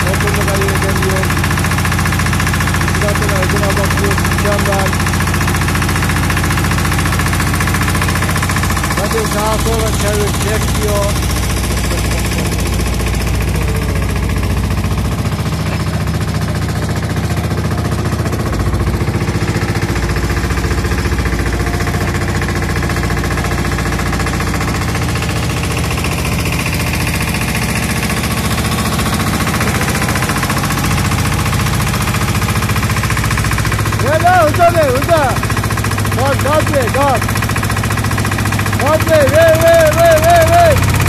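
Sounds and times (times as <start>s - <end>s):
small boat motor running: 0.0s - 41.0s.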